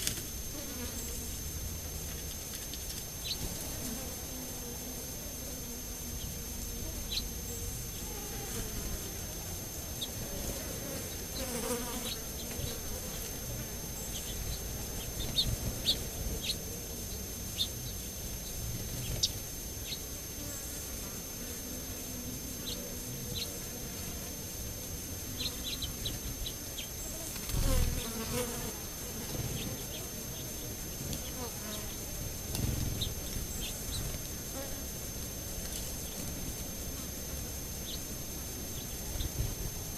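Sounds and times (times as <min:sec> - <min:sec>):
flying insects buzzing: 0:00.0 - 0:39.9.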